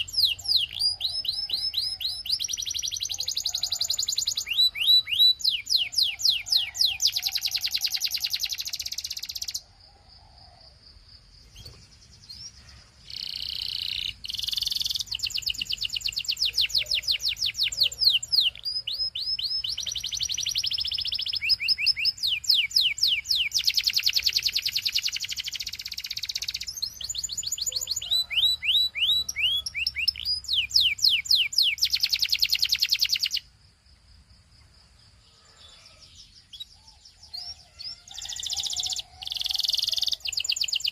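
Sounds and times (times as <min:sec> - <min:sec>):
canary singing trills: 0:00.0 - 0:10.6, 0:11.4 - 0:33.5, 0:34.6 - 0:40.9.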